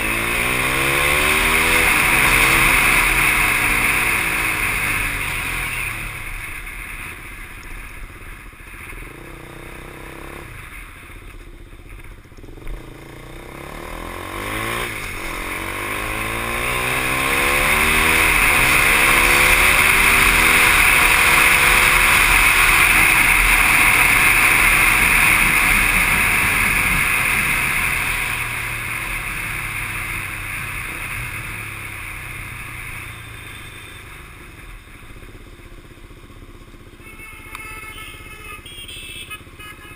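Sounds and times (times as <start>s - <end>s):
motorcycle engine accelerating: 0.0s - 39.7s.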